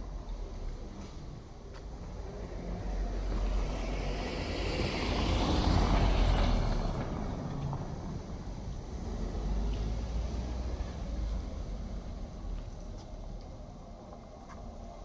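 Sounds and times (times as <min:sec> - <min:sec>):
road vehicle passing by: 0:00.2 - 0:15.0.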